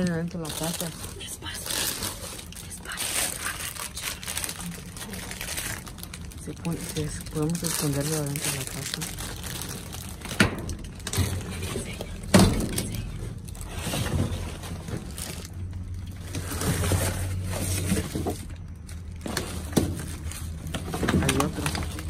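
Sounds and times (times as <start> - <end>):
plastic bags and cardboard rustling: 0.0 - 22.0.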